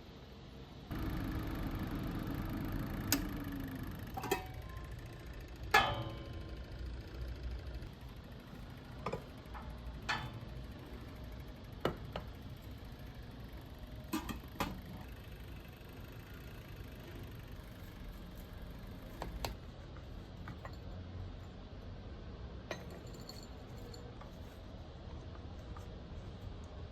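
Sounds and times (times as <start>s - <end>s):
low background hum: 0.0s - 26.9s.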